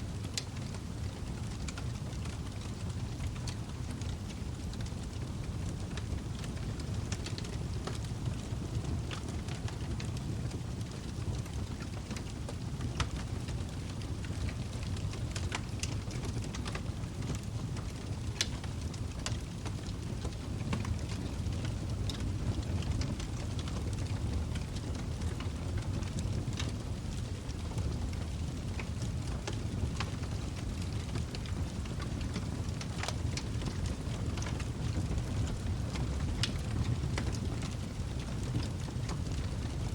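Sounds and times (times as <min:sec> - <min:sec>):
log fire crackling and popping: 0:00.1 - 0:39.9.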